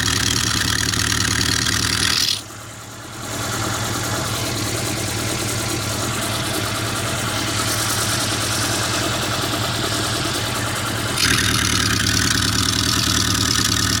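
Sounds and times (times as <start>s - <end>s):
car engine idling: 0.0s - 14.0s
loud raspy exhaust: 0.0s - 14.0s.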